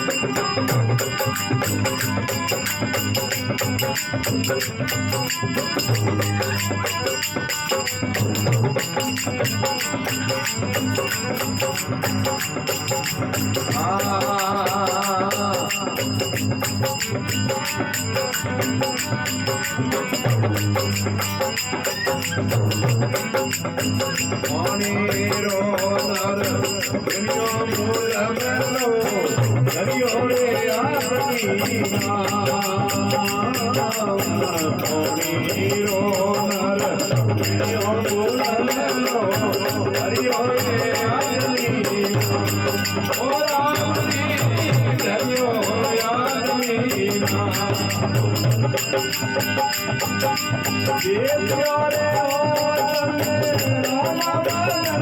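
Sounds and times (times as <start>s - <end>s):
jingling rattling percussion: 0.0s - 55.0s.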